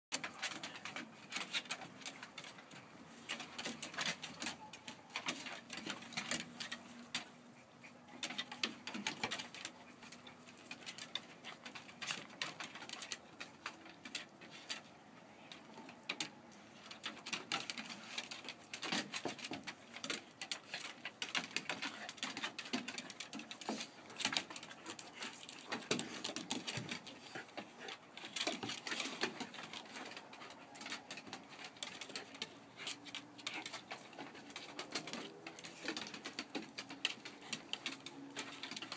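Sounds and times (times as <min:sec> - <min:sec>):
claws clicking on wooden boards: 0:00.1 - 0:38.9
dogs scuffling: 0:00.1 - 0:38.9.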